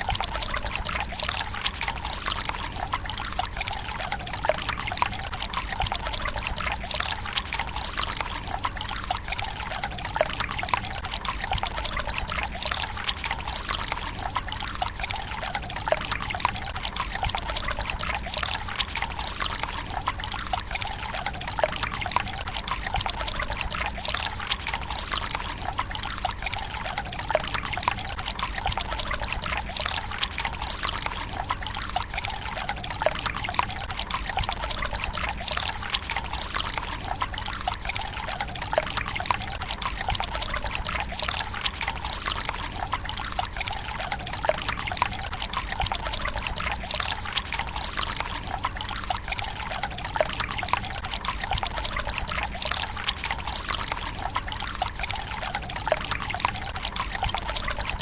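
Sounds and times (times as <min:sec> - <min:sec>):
water trickling into stone basin: 0:00.0 - 0:58.0.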